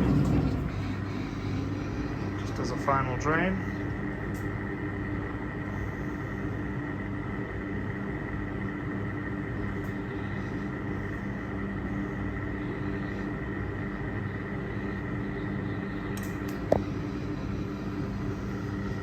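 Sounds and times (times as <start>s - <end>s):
dishwasher drain pump humming: 0.0s - 19.0s.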